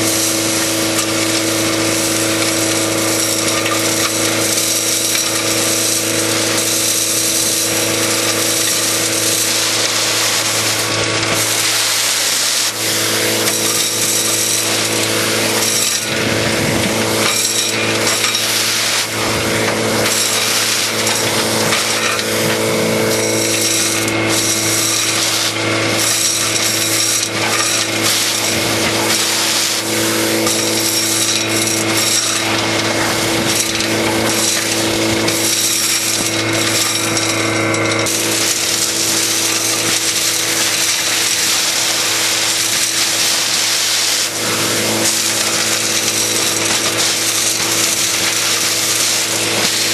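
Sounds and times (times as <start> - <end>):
industrial vacuum humming: 0.0 - 49.9.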